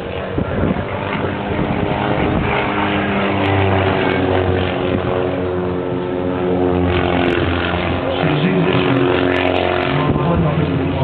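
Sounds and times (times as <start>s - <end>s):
engine droning hum: 0.0s - 11.0s.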